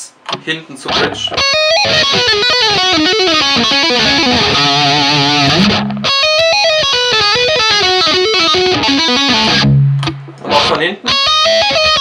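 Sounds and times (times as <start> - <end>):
electric guitar lead lines: 0.3 - 12.0.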